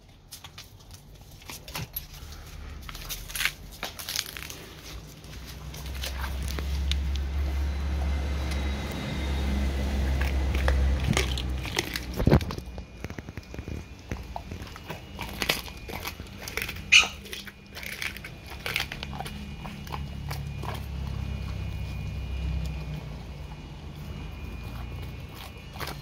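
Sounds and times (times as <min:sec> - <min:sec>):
dog chewing and crunching bones: 0:00.0 - 0:26.0.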